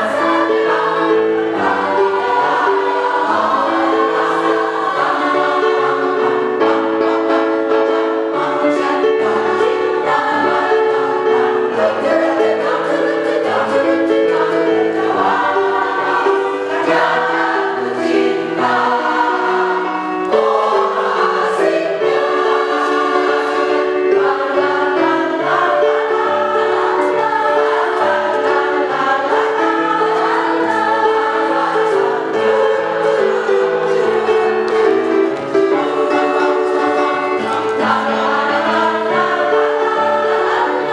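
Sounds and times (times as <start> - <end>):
grand piano accompaniment: 0.0 - 40.9
women's choir singing: 0.0 - 40.9.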